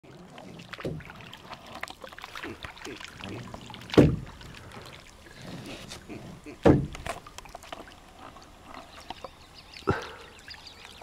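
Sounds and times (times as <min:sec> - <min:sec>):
water lapping: 0:00.0 - 0:11.0.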